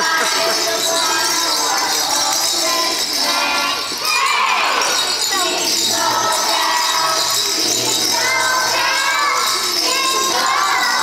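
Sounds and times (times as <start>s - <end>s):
jingle bells shaken: 0.0s - 11.0s.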